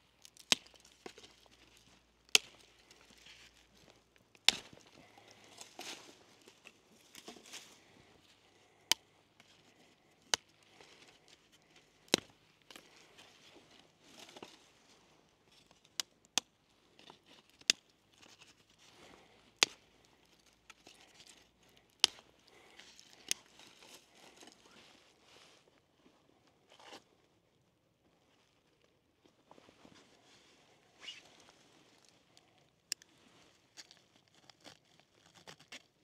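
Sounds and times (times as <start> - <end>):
soft rustling and crinkling: 0.0 - 36.0.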